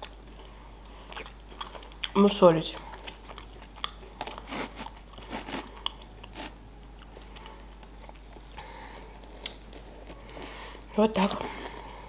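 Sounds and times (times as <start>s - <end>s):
chewing soft dessert: 0.0s - 12.0s.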